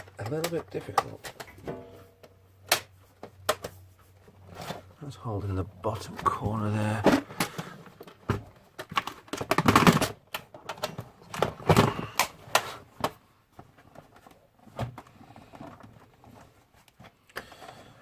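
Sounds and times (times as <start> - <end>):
plastic case clicks and clatter: 0.0 - 3.8, 6.0 - 17.6.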